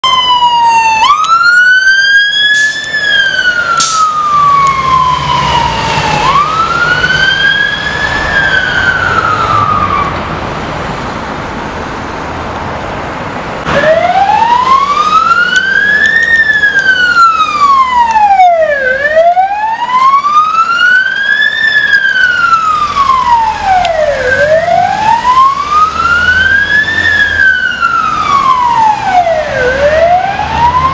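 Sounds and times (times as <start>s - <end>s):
fire engine siren wailing: 0.0s - 10.6s, 13.6s - 30.9s.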